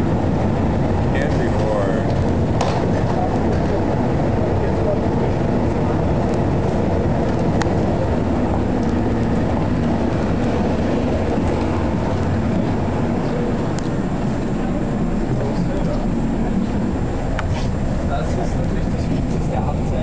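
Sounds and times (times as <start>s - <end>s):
underground train rumble: 0.0s - 20.0s.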